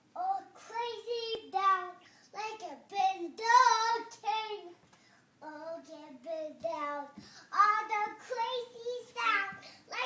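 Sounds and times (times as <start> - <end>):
girl singing: 0.1 - 4.8, 5.4 - 10.0.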